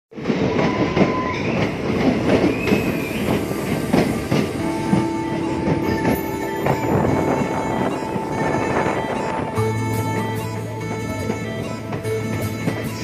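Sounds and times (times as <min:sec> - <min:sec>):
train rumbling on rails: 0:00.1 - 0:13.0
wheels clicking over rail joints: 0:00.2 - 0:13.0
high wheel squeal: 0:02.4 - 0:13.0.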